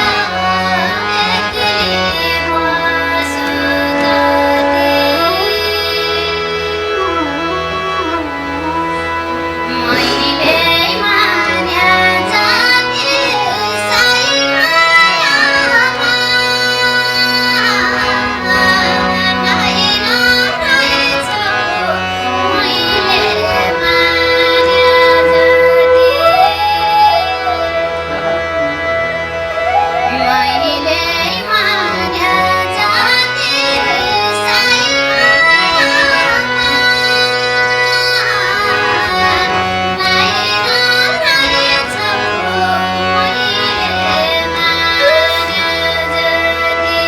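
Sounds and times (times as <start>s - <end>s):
woman singing folk song: 0.0s - 9.0s, 9.7s - 27.6s, 30.0s - 39.4s, 40.0s - 47.0s
instrumental accompaniment: 0.0s - 47.0s.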